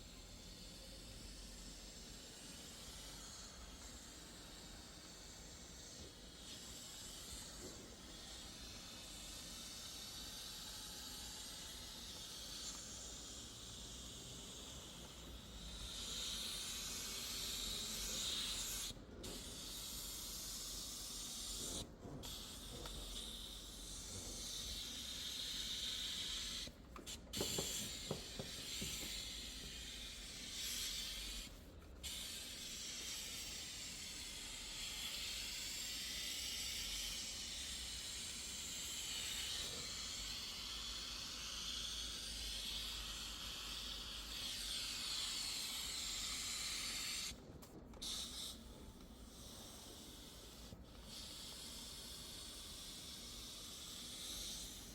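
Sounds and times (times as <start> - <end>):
air jet hissing: 1.9 - 47.4.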